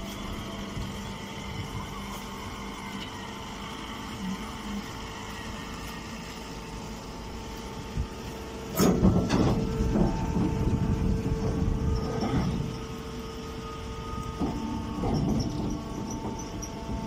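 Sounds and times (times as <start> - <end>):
hay baler machine hum: 0.0 - 17.0.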